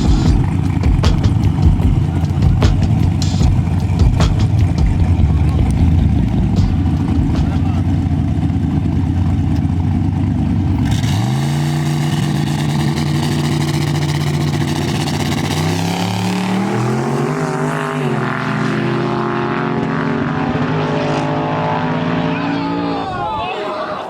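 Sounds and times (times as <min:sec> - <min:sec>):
drag racing car engine revving: 0:00.0 - 0:22.9.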